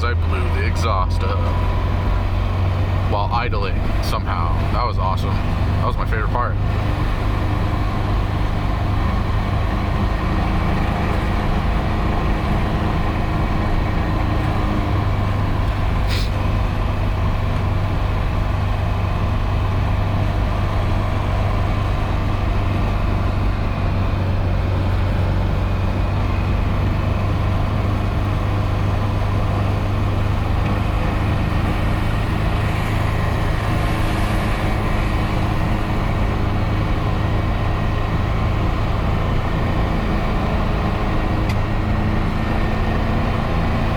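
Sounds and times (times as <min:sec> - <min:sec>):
car engine droning: 0:00.0 - 0:43.9.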